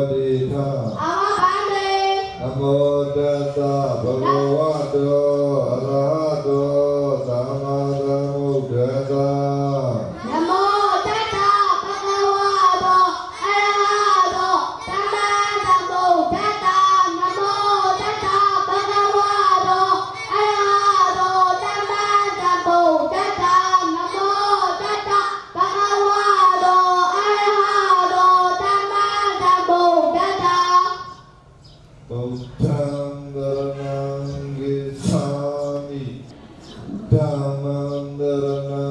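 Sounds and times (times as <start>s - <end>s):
child chanting over loudspeaker: 0.0s - 31.4s, 32.1s - 38.9s.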